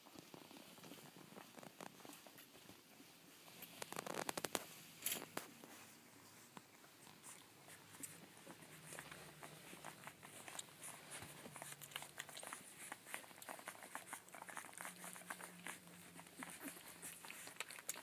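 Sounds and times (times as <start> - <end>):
puppies suckling: 0.0 - 18.0.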